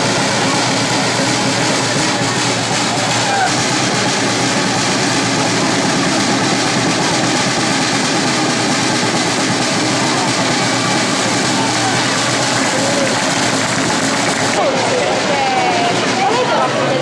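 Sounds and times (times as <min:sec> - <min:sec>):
crowd cheering and shouting: 0:00.0 - 0:17.0.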